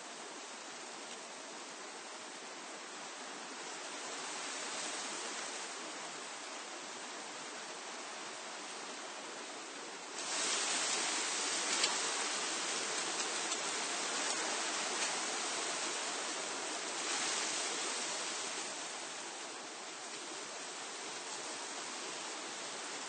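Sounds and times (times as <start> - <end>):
wind rustling leaves: 0.0 - 23.0.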